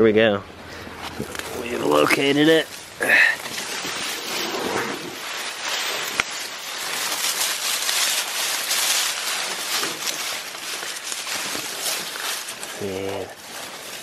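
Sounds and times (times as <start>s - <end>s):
grass and dry stalks rustling: 0.9s - 14.0s.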